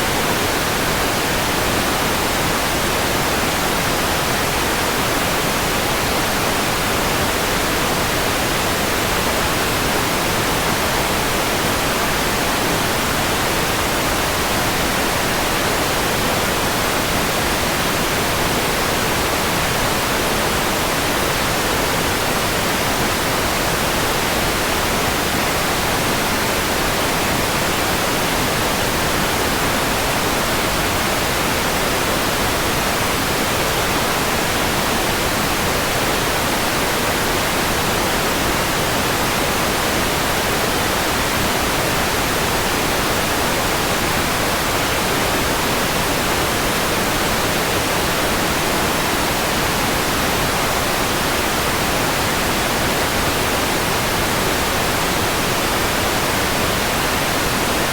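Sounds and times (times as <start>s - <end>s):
white noise hiss: 0.0s - 57.9s.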